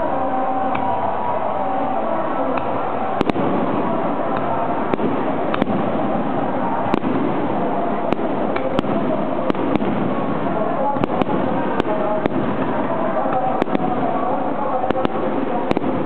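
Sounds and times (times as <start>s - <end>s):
crowd chatter: 0.0s - 16.0s
fireworks bursting with bangs: 0.0s - 16.0s.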